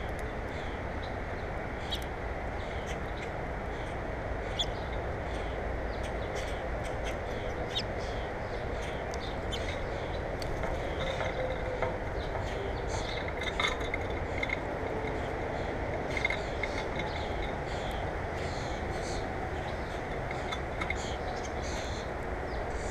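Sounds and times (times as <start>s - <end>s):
small birds chirping: 0.0s - 22.9s
steady background rush: 0.0s - 22.9s.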